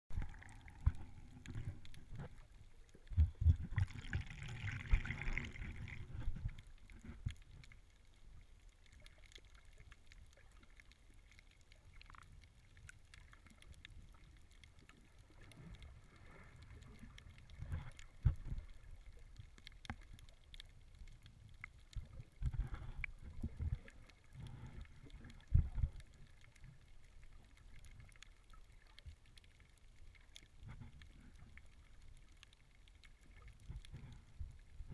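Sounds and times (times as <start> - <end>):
underwater splashing and bubbling: 0.1 - 34.9.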